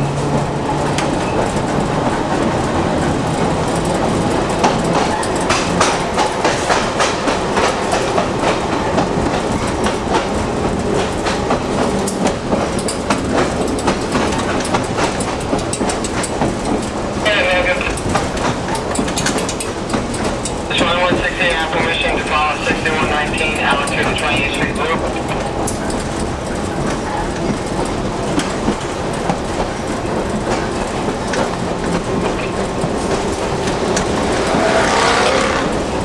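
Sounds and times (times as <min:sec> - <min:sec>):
streetcar rolling rumble: 0:00.0 - 0:36.0
wheels clicking over rail joints: 0:00.0 - 0:36.0.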